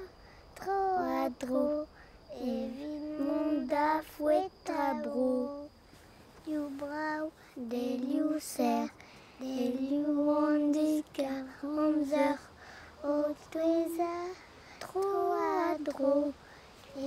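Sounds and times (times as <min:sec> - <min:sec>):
child singing alone: 0:00.0 - 0:05.7, 0:06.4 - 0:17.0.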